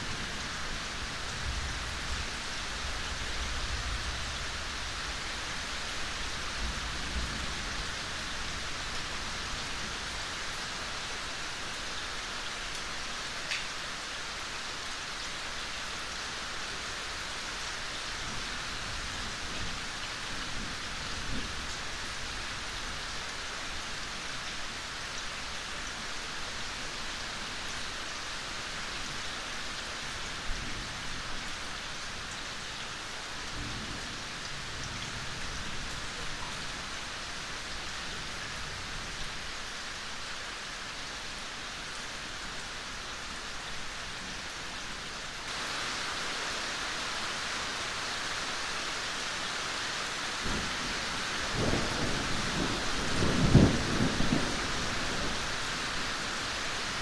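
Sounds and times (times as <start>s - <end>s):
soft rain falling: 0.0s - 57.0s.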